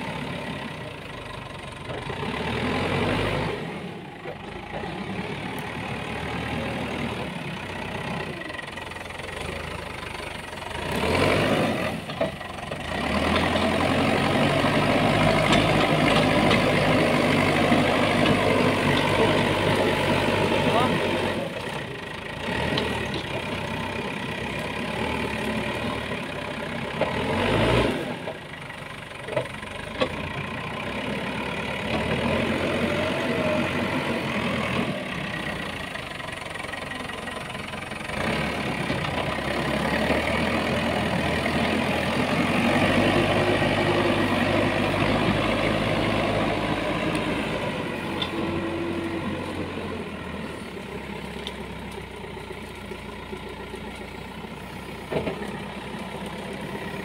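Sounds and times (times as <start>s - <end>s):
backhoe diesel engine working: 0.0s - 57.0s.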